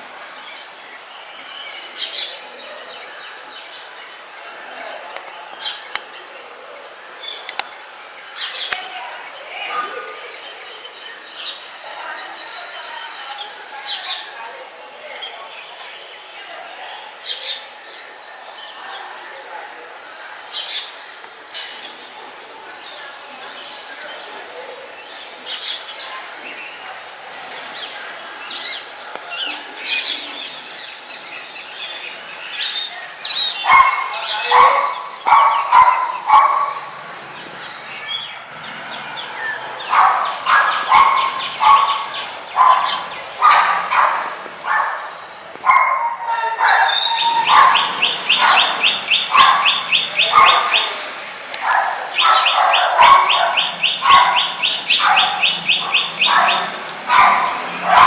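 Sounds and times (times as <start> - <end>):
birds chirping and calling: 0.4 - 14.5, 23.5 - 58.0.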